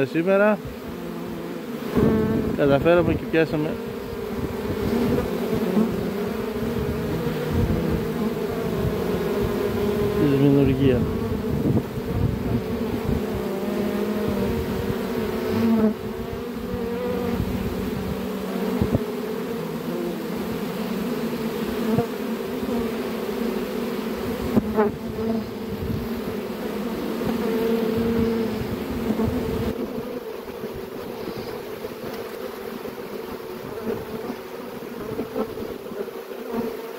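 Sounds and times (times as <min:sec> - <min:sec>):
bee swarm buzzing: 0:00.0 - 0:36.9.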